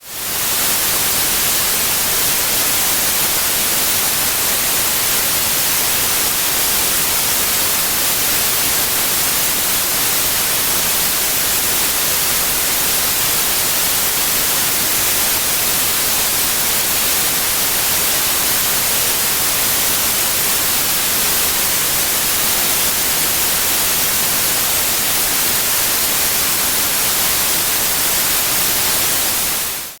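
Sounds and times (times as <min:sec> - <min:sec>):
white noise hiss: 0:00.0 - 0:30.0.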